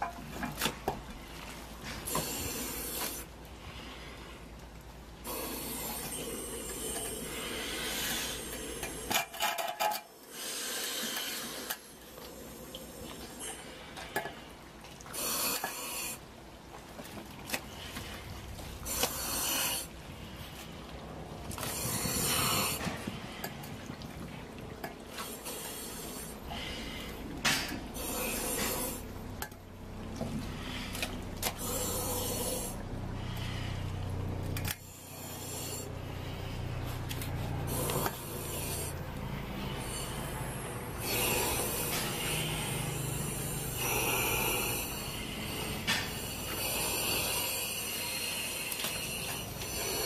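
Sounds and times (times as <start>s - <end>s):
thick slurry sloshing and squelching: 0.0s - 50.0s.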